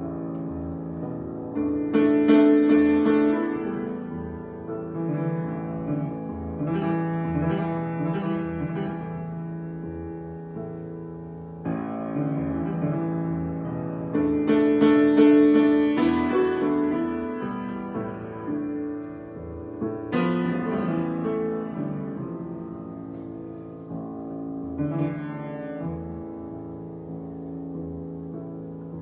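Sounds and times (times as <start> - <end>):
grand piano chords: 0.0 - 29.0.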